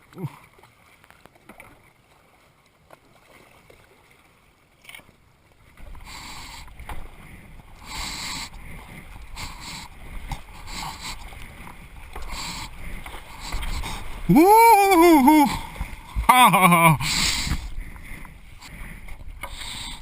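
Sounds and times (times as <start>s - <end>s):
kayak paddle splashing: 0.0s - 20.0s.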